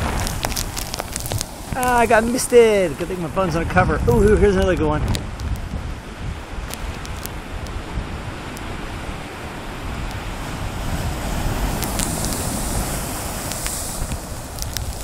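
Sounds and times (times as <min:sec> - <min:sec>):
waves breaking against rocks: 0:00.0 - 0:15.0
wind on microphone: 0:00.0 - 0:15.0.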